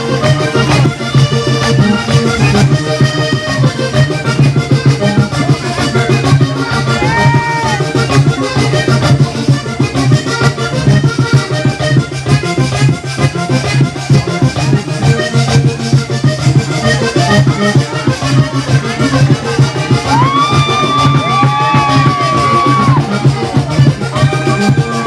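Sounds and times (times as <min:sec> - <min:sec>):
button accordion melody: 0:00.0 - 0:25.0.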